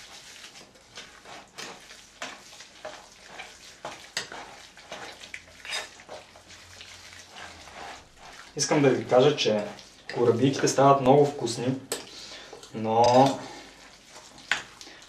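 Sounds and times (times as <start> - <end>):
stirring sticky mix in bowl: 0.0 - 15.0.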